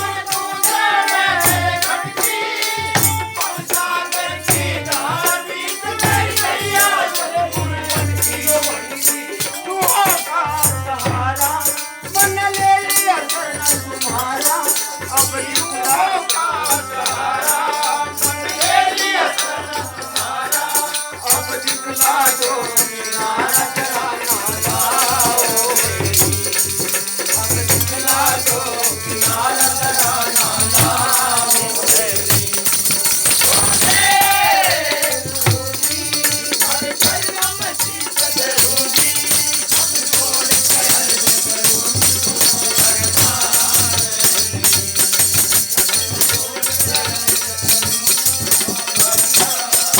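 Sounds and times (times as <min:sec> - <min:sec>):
person singing devotional hymn: 0:00.0 - 0:49.9
rattling hand percussion: 0:00.0 - 0:49.9
steady drum beat: 0:00.0 - 0:49.9.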